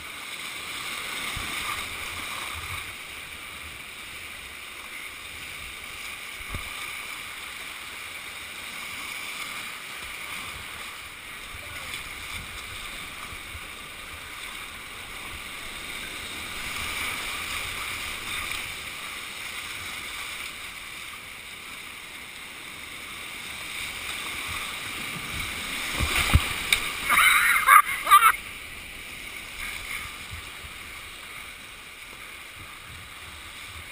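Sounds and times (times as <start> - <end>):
whitewater rapid rushing: 0.0 - 33.9.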